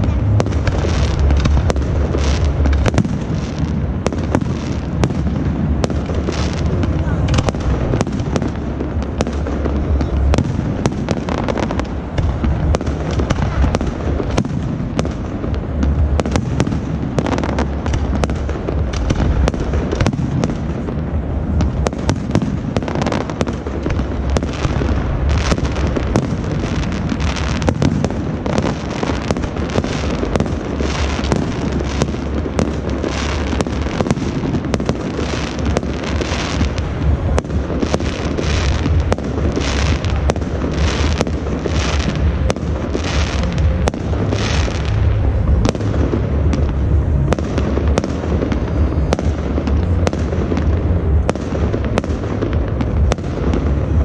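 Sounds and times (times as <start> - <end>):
fireworks cracking and popping: 0.0 - 54.0
low rumble of bangs: 0.0 - 54.0.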